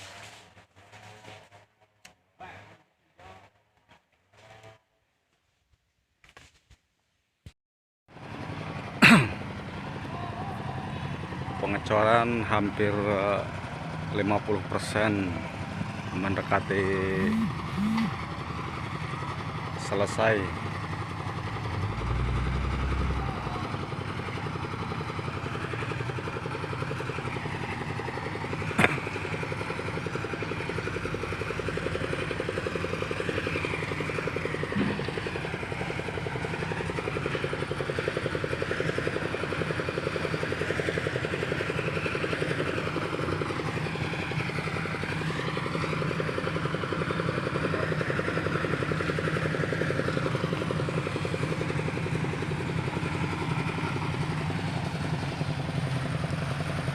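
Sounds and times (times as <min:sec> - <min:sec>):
small engine running: 0:08.2 - 0:56.9.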